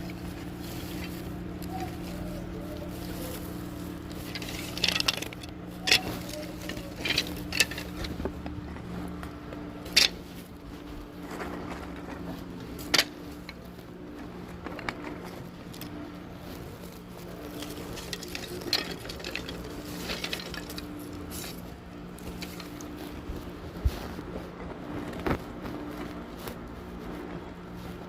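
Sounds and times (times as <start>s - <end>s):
woodworking machinery humming: 0.0s - 28.0s.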